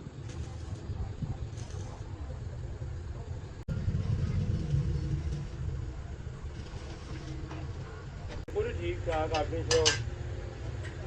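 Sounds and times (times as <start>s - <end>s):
tractor engine rumbling: 0.0s - 11.0s.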